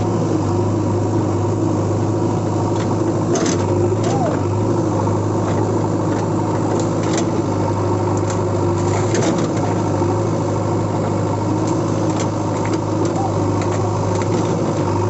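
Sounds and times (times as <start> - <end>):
machine running with low hum: 0.0 - 15.0.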